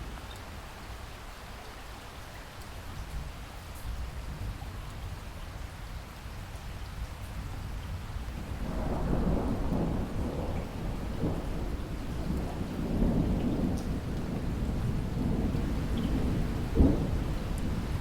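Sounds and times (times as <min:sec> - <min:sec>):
rain falling: 0:00.0 - 0:18.0
low rumble of thunder: 0:03.0 - 0:18.0.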